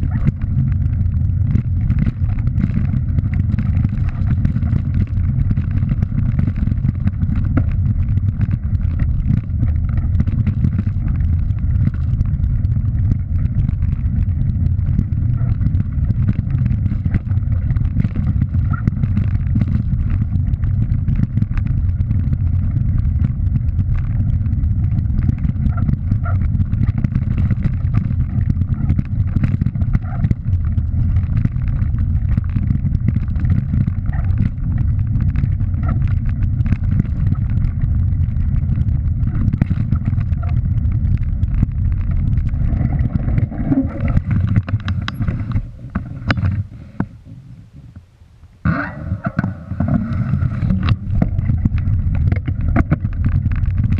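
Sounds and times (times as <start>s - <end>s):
ticks and rattles from gravel: 0.0s - 48.0s, 48.8s - 53.9s
wind buffeting microphone: 0.0s - 53.9s.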